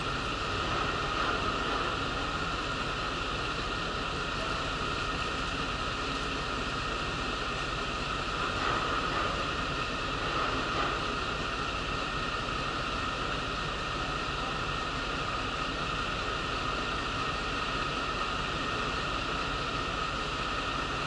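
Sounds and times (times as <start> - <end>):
air-conditioning blower hiss: 0.0 - 21.0
bus diesel engine running: 0.0 - 21.0.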